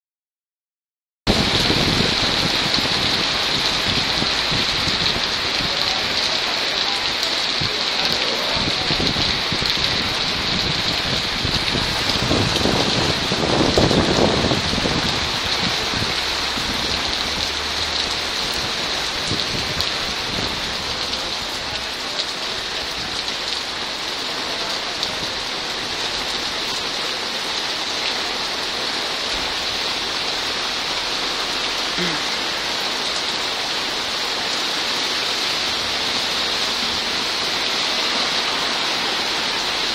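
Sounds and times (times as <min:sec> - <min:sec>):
heavy rain on pavement: 0:01.3 - 0:39.9.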